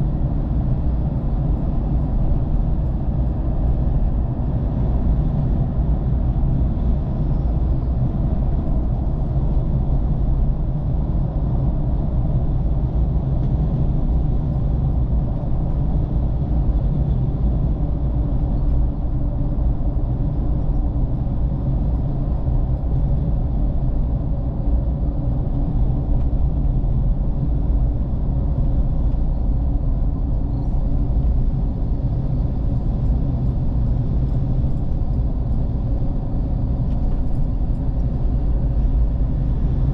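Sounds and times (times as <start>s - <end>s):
road noise while driving: 0.0s - 39.9s
vehicle engine rumble: 0.0s - 39.9s.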